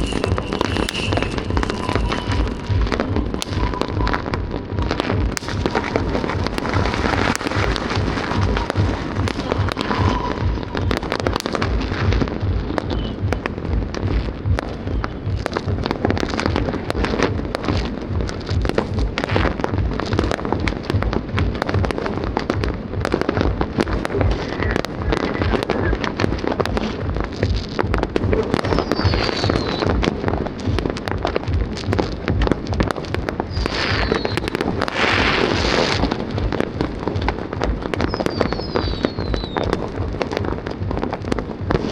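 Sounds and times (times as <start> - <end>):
fireworks crackling and banging: 0.0 - 41.9
music playing: 0.0 - 41.9.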